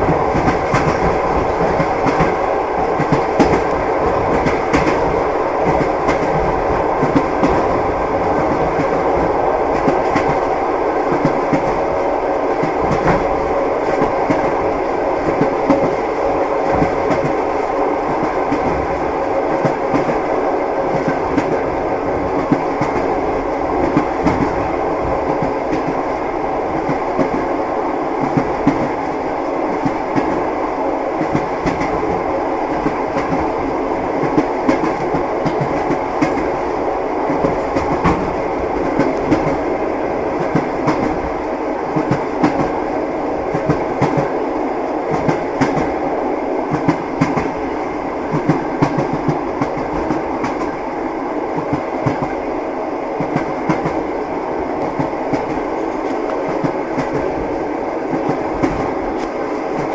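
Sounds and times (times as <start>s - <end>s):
train wheels clickety-clack: 0.0s - 50.8s, 51.5s - 52.5s, 53.2s - 59.9s
train carriage rumbling: 0.0s - 59.9s.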